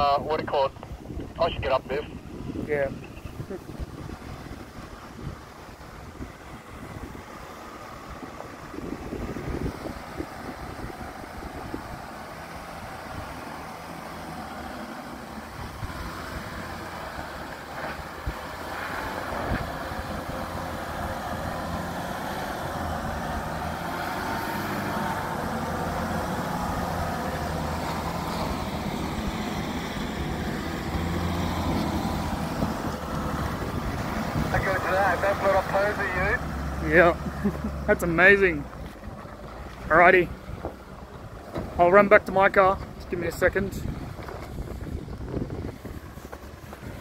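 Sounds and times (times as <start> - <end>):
diesel engine at low revs: 0.0 - 47.0.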